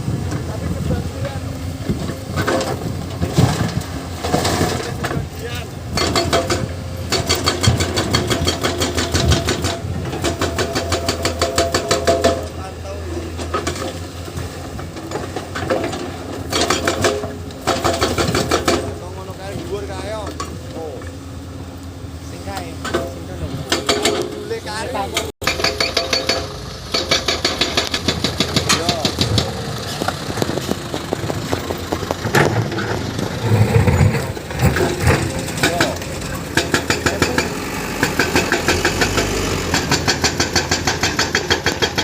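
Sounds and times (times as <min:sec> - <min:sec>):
excavator diesel engine running: 0:00.0 - 0:42.0
bucket rattling dirt and rock: 0:00.1 - 0:21.2, 0:22.2 - 0:42.0.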